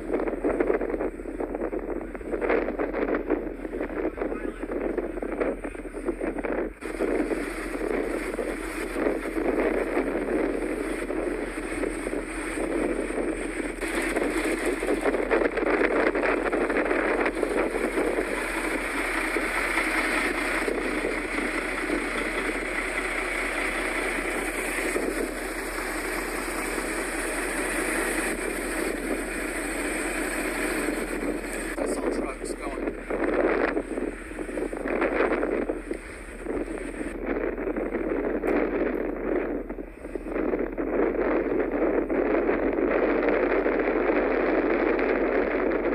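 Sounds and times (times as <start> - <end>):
wind blowing across microphone: 0.0 - 45.9.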